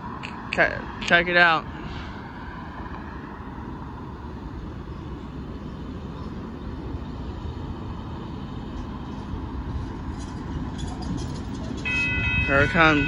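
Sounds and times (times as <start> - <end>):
distant vehicles rumbling: 0.0 - 13.0.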